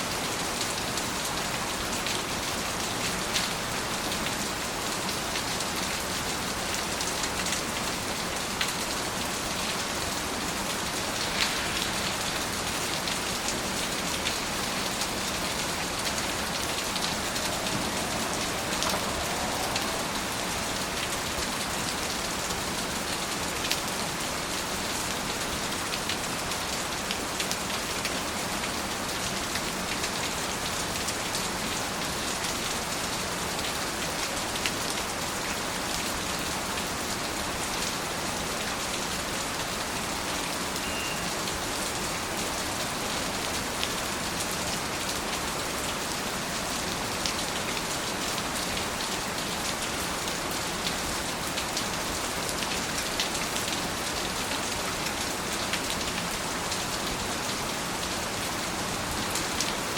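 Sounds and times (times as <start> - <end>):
close raindrops pattering: 0.0 - 59.9
steady rain falling: 0.0 - 59.9.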